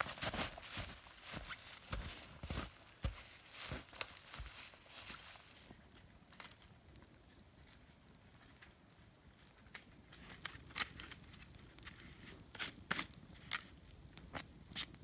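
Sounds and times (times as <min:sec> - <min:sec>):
fire popping: 0:00.0 - 0:15.0
wood campfire crackling: 0:00.0 - 0:15.0.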